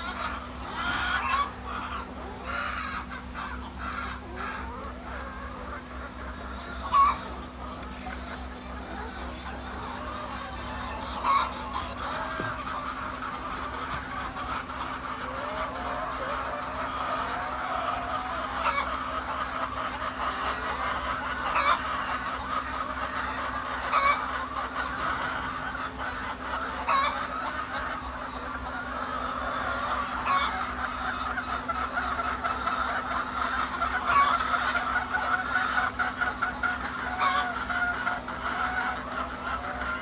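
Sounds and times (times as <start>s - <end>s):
hens clucking: 0.0s - 40.0s
steady low hum: 0.0s - 40.0s.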